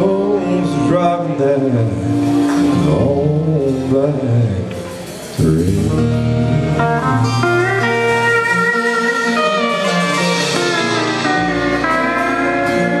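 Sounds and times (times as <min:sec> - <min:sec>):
bass: 0:00.0 - 0:13.0
guitar with sliding notes: 0:00.0 - 0:13.0.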